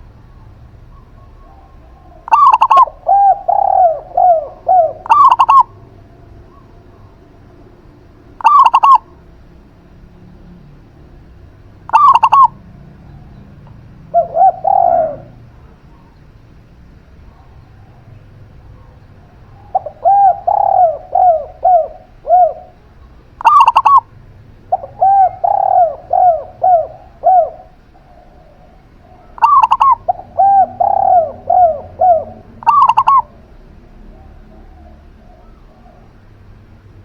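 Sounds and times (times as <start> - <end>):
doves cooing: 0.0 - 36.9.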